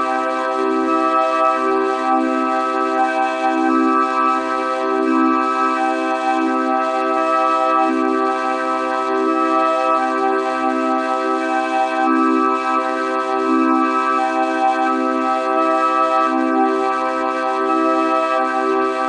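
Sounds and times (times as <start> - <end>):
vocoder synthesizer chord: 0.0 - 19.0.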